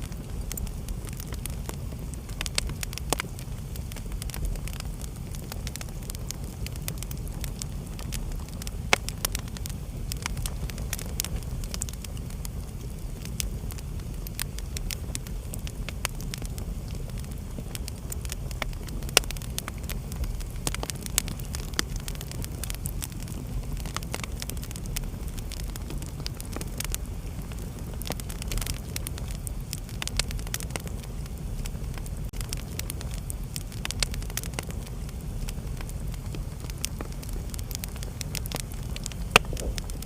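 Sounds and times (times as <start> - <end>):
flames rumbling: 0.0 - 40.0
wood fire crackling and popping: 0.0 - 40.0.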